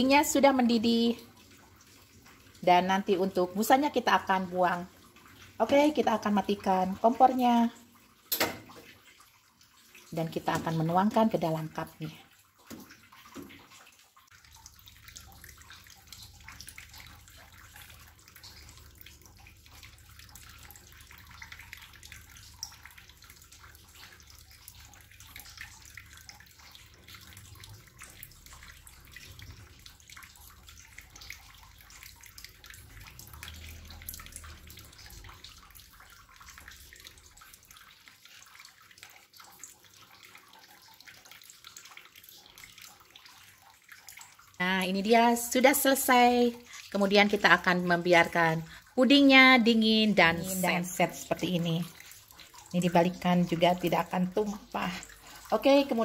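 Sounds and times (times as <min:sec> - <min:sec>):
liquid trickling into cups: 0:00.0 - 0:56.0.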